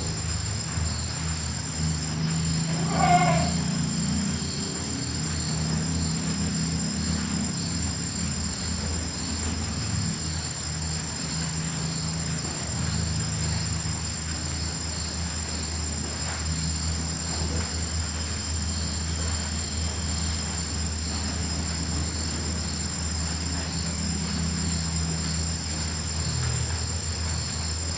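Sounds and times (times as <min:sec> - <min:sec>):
insect high trill: 0:00.0 - 0:27.9
soft insect chirps: 0:00.0 - 0:27.9.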